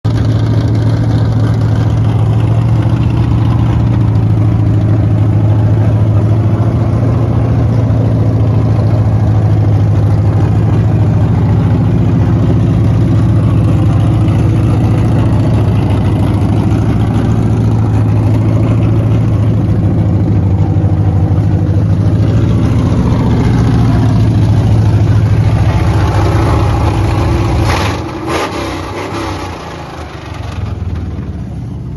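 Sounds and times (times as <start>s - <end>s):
car engine running loudly: 0.0s - 31.9s.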